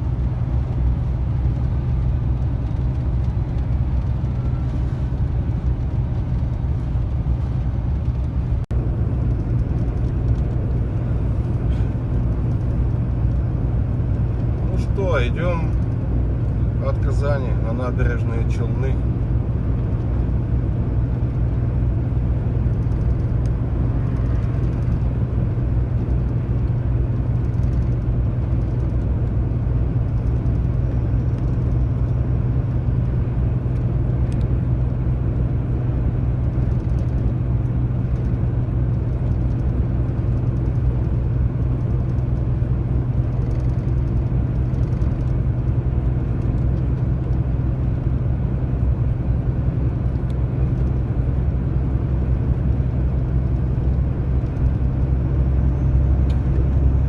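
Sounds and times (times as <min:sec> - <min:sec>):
diesel truck engine droning: 0:00.0 - 0:57.0
road and tyre noise: 0:00.0 - 0:57.0.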